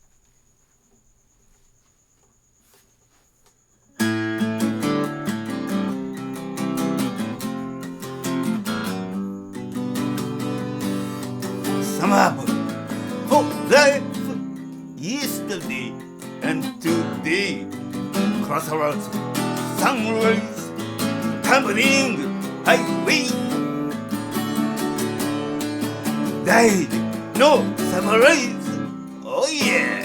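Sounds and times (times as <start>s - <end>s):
acoustic guitar strumming: 4.0s - 30.0s.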